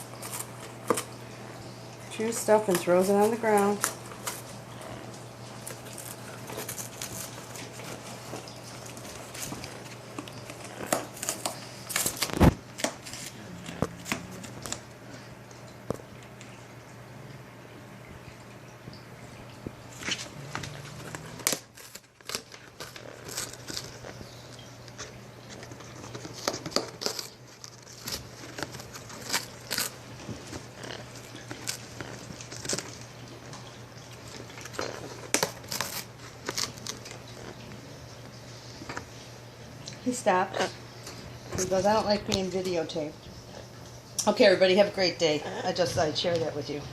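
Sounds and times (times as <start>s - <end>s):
parrot chewing cardboard: 0.0s - 16.5s, 19.6s - 44.4s.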